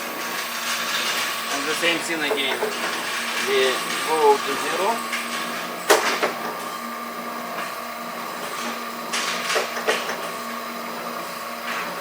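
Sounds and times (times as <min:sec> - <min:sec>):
grinder machine hum: 0:00.0 - 0:12.0.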